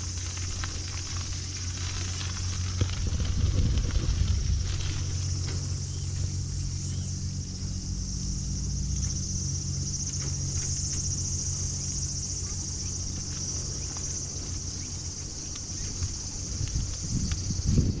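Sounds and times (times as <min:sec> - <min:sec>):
bicycle tyres rolling on pavement: 0:00.0 - 0:18.0
insect chorus shrilling: 0:00.0 - 0:18.0.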